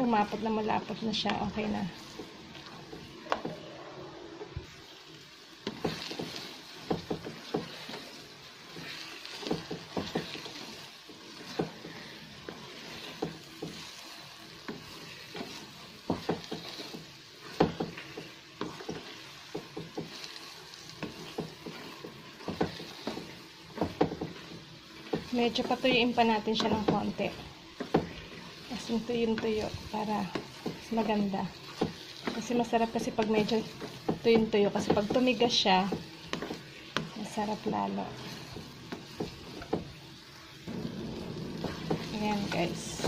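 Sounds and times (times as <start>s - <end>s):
light sizzle: 0.0s - 43.0s
wooden spatula scraping a pan: 0.0s - 43.0s.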